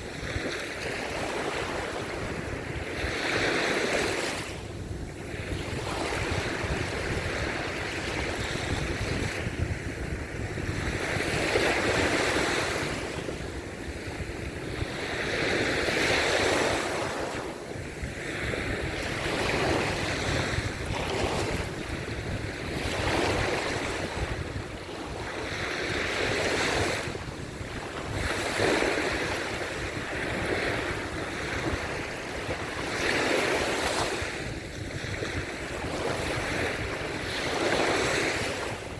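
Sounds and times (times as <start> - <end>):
waves breaking on beach: 0.0 - 38.9
wind rumbling on microphone: 0.0 - 38.9.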